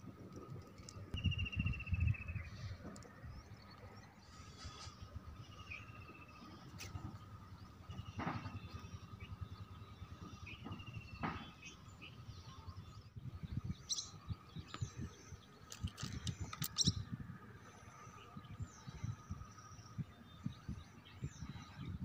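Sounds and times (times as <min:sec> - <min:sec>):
wind rumbling on microphone: 0:00.0 - 0:22.0
birds chirping: 0:00.2 - 0:22.0.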